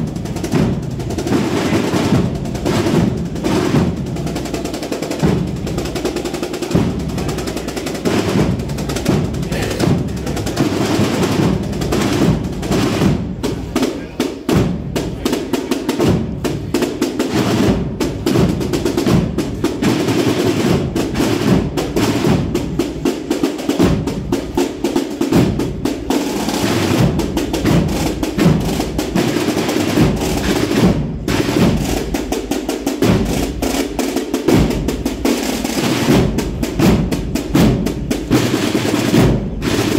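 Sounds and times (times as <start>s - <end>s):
marching band playing: 0.0s - 39.9s
snare drums rolling: 0.0s - 39.9s.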